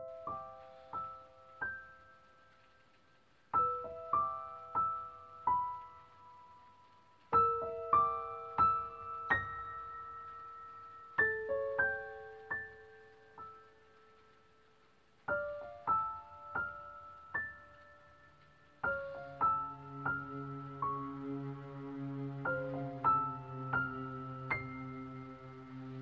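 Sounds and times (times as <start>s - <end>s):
slow solo piano music: 0.0s - 26.0s.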